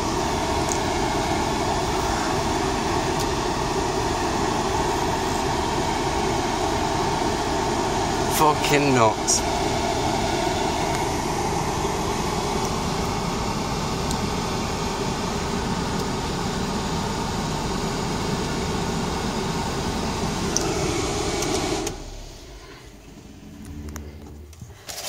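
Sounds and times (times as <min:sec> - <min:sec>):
rushing noise inside car: 0:00.0 - 0:25.0.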